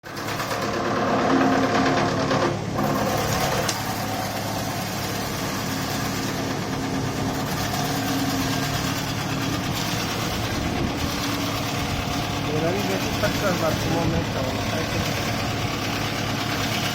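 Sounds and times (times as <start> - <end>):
wood shaving machine droning: 0.0 - 16.9.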